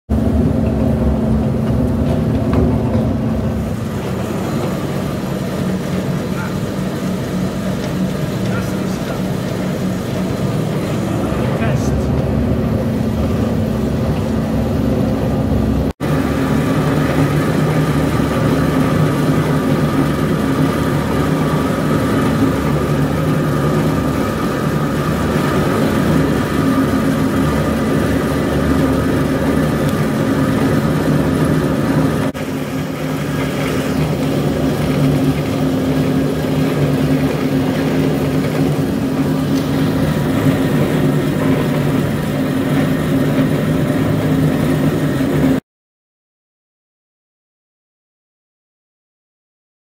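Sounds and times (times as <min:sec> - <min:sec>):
pellet mill mechanical drone: 0:00.1 - 0:45.6.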